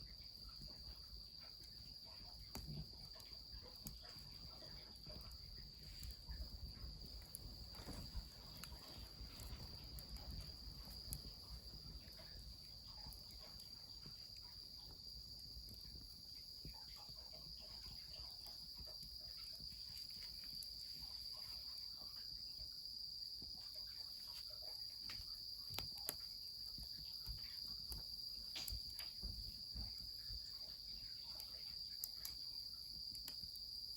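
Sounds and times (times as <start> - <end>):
insects trilling: 0.0 - 33.9
wood fire crackles: 0.0 - 33.9.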